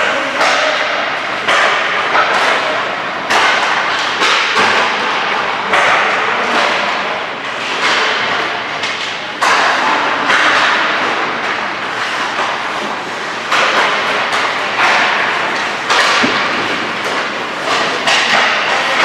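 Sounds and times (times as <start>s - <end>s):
pucks striking rink boards: 0.0s - 19.0s.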